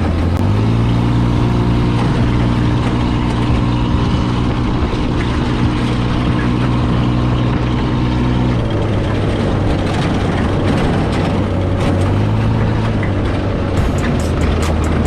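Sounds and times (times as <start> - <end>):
dune buggy engine droning: 0.0 - 15.0.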